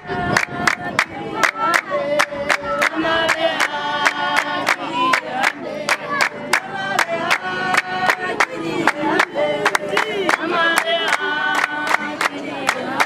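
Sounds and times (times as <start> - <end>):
women singing together: 0.0 - 13.0
hand claps: 0.2 - 13.0.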